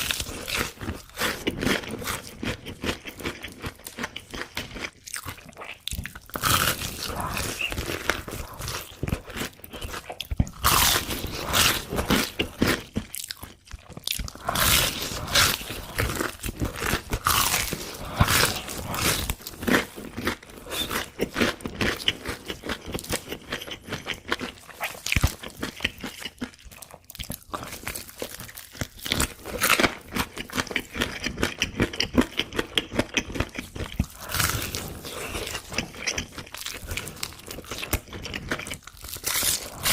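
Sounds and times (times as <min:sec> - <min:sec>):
chewing: 0:00.0 - 0:39.9
crunching bites of food: 0:00.0 - 0:39.9.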